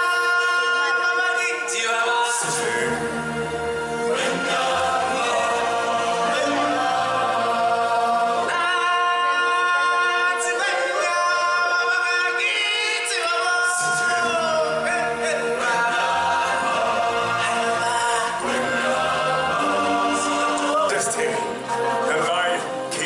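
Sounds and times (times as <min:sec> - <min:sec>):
choir singing chant-like chords: 0:02.2 - 0:11.8, 0:13.8 - 0:22.9.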